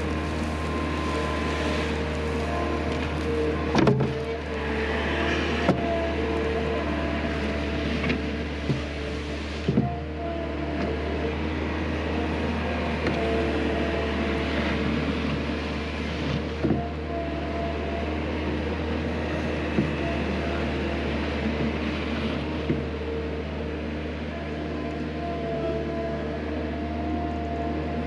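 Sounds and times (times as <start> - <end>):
skid steer engine running: 0.0 - 28.0.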